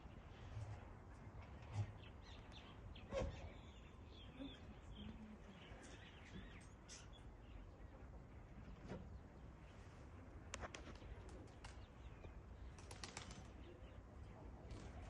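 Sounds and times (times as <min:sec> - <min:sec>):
faint bird chirping: 0:00.0 - 0:15.0
low background noise: 0:00.0 - 0:15.0.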